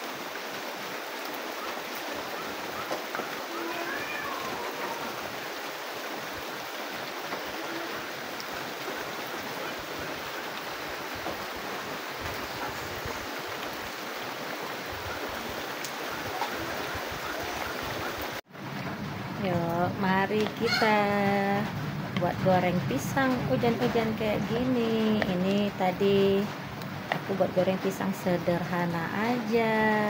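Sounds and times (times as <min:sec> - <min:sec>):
rain on leaves: 0:00.0 - 0:30.0.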